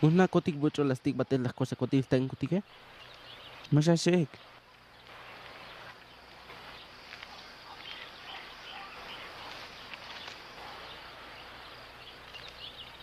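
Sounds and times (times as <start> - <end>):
steady hiss: 0.0 - 13.0
faint bird chirps: 2.4 - 13.0.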